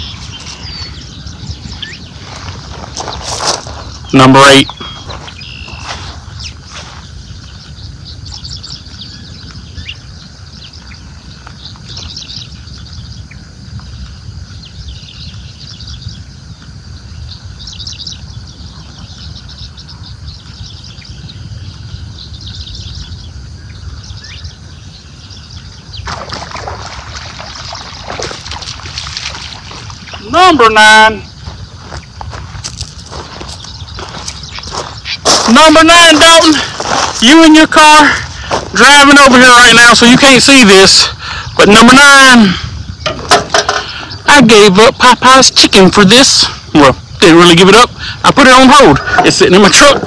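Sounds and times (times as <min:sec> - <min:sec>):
noisy rustle: 0:00.0 - 0:45.1
birds chirping and singing: 0:00.0 - 0:50.0.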